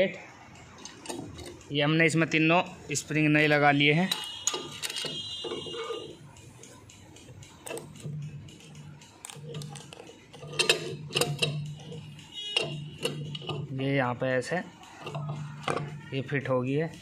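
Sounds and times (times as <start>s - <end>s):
steel parts clinking and clicking: 0.6s - 1.8s, 3.0s - 16.4s.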